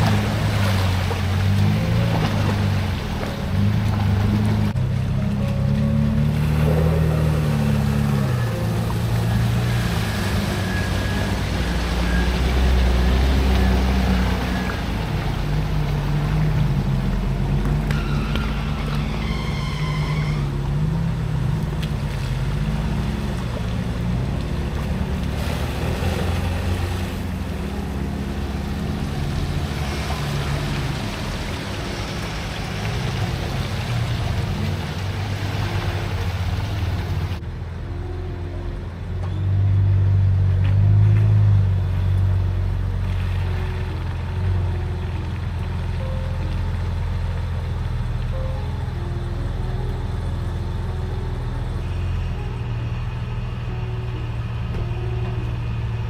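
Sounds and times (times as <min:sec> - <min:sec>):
road and tyre noise: 0:00.0 - 0:56.0
vehicle engine running: 0:00.0 - 0:56.0.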